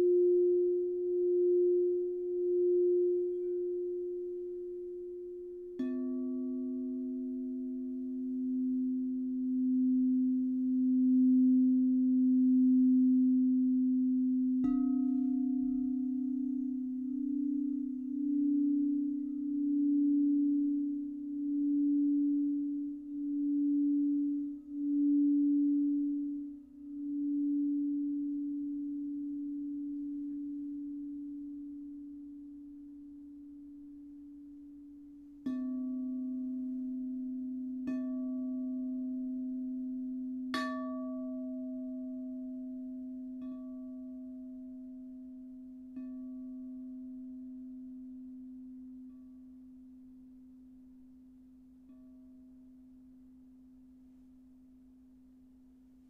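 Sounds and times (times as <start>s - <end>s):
singing bowls ringing: 0.0s - 50.8s
bowl struck ringing: 0.0s - 55.6s
low wavering tone: 0.0s - 56.0s.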